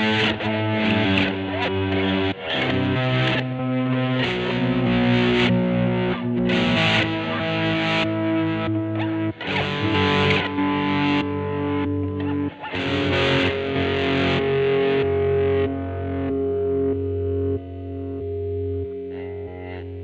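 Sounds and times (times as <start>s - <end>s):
electric guitar chords: 0.0s - 20.0s.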